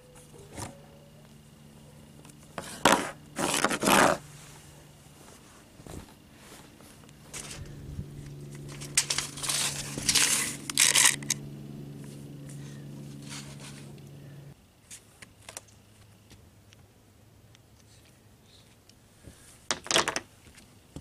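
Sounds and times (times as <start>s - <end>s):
steady low hum: 0.0s - 19.7s.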